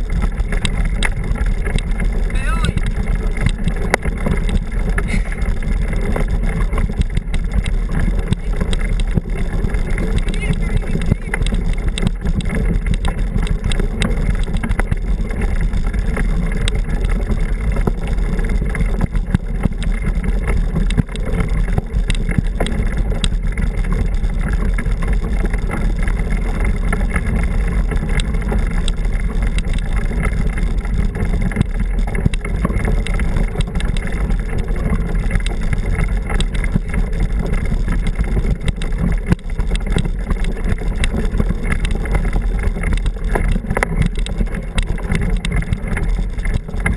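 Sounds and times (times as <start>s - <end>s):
wind and riding rumble: 0.0s - 46.9s.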